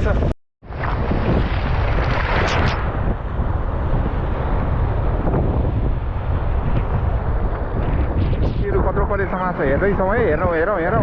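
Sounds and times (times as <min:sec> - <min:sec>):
wind buffeting microphone: 0:00.0 - 0:11.0
surf washing: 0:00.7 - 0:11.0.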